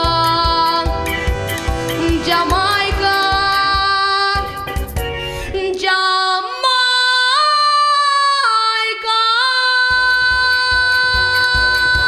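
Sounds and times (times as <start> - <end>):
backing track music: 0.0 - 7.6, 9.7 - 12.0.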